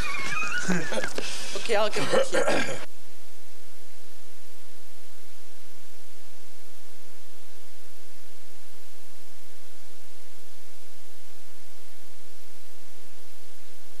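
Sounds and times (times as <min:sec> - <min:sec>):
electrical hum: 0:00.0 - 0:14.0
loud static hiss: 0:00.0 - 0:14.0.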